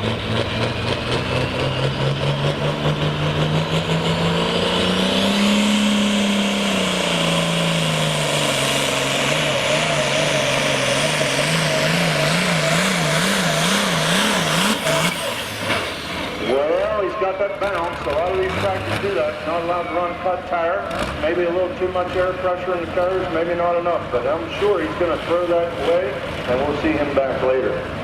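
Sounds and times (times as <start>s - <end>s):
high turbo whine: 0.0s - 27.3s
diesel tractor engine under load: 0.0s - 28.0s.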